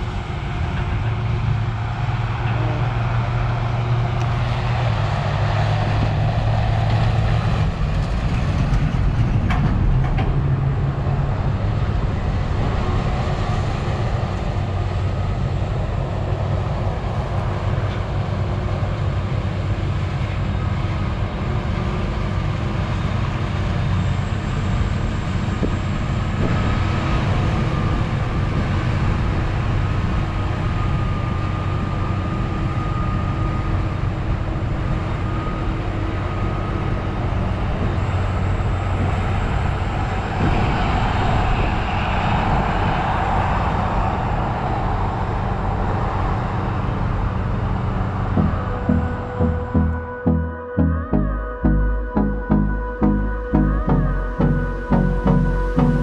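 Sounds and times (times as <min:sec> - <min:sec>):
machinery drone: 0:00.0 - 0:56.0.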